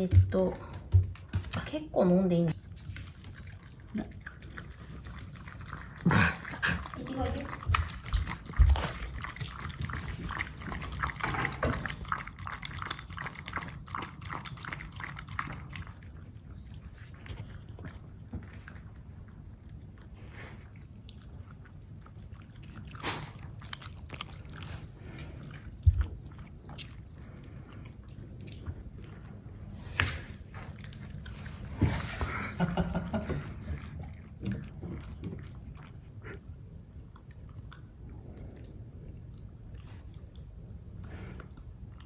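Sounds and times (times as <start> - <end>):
dog lapping milk: 0.0 - 38.6.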